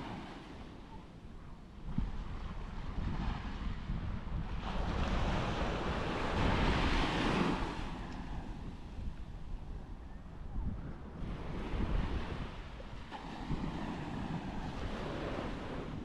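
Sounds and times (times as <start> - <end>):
waves breaking on beach: 0.0 - 1.2, 2.2 - 9.1, 11.2 - 16.0
wind buffeting microphone: 0.0 - 16.0.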